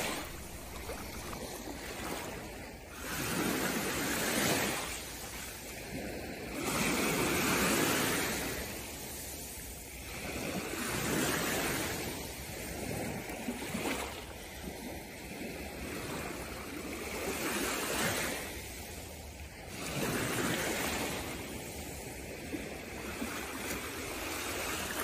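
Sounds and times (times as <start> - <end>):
small waves on sandy shore: 0.0 - 25.0.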